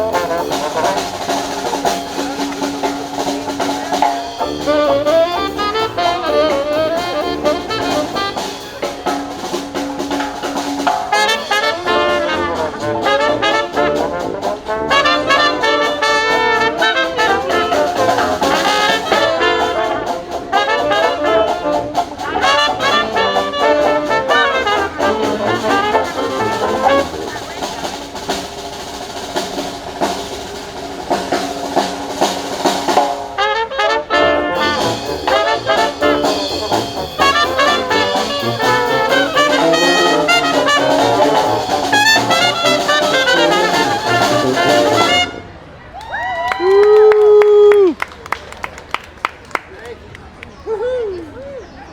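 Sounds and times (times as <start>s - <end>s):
drum beat: 0.0s - 33.4s, 34.6s - 45.4s
brass band playing jazz: 0.0s - 45.8s.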